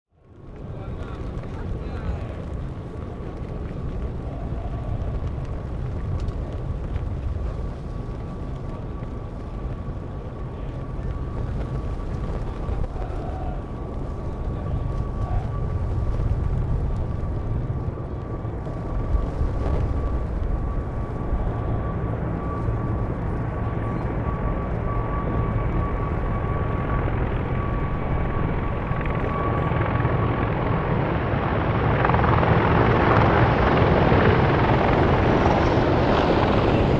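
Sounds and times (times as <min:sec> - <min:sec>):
helicopters rumbling and whining: 0:00.1 - 0:36.9
wind on microphone: 0:00.3 - 0:36.9.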